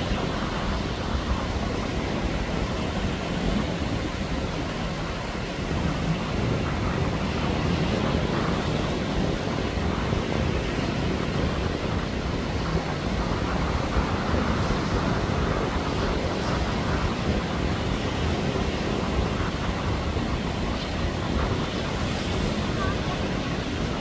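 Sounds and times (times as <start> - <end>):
small waves washing on sand: 0.0 - 24.0
wind buffeting microphone: 0.0 - 24.0.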